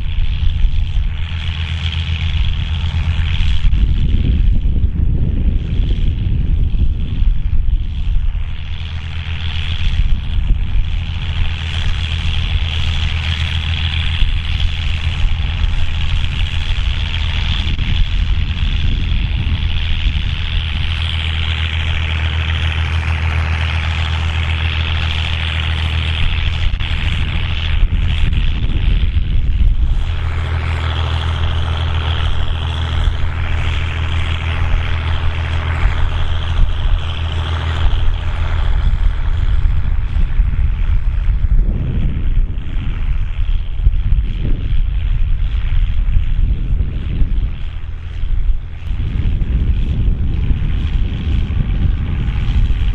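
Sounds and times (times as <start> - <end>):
rushing noise: 0.0 - 52.9
tractor diesel engine running: 0.0 - 52.9.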